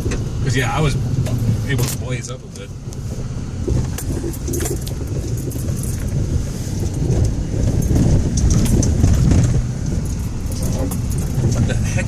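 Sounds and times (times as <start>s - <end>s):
tyres rumbling on rocky trail: 0.0s - 12.0s
small rattles and knocks: 1.1s - 12.0s.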